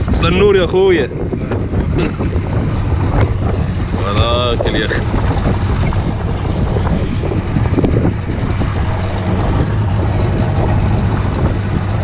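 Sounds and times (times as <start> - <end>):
outboard motor running: 0.0 - 12.0
wind and water rushing: 0.0 - 12.0.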